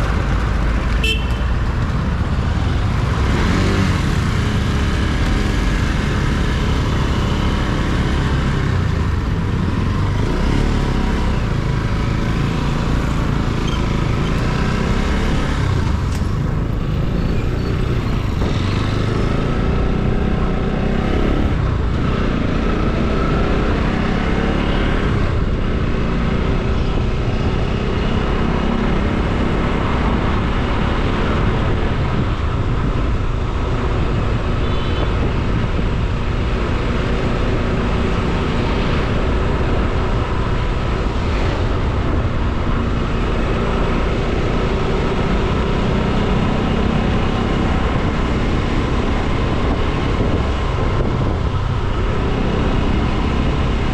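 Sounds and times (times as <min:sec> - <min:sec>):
road noise: 0:00.0 - 0:53.9.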